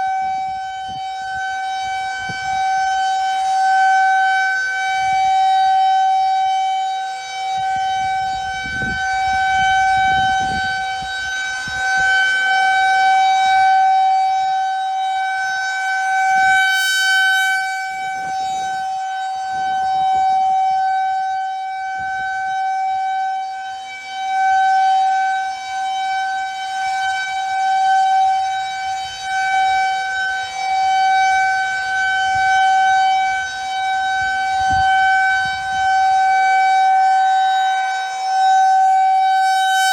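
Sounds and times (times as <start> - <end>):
rotating warning siren tone: 0.0 - 39.9.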